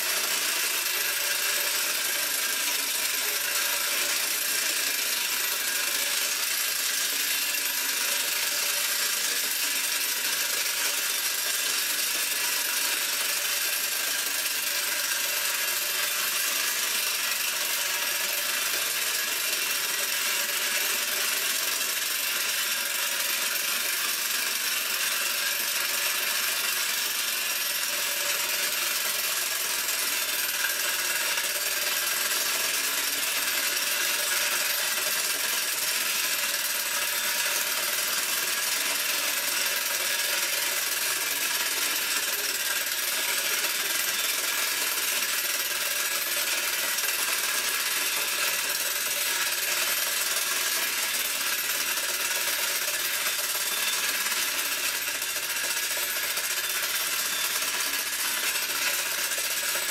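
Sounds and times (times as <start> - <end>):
clockwork whirring and ticking: 0.0 - 59.9.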